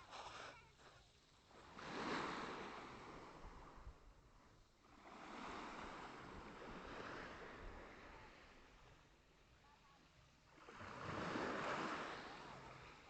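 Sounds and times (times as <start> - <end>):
small waves washing onto shore: 0.0 - 9.6, 10.5 - 13.0.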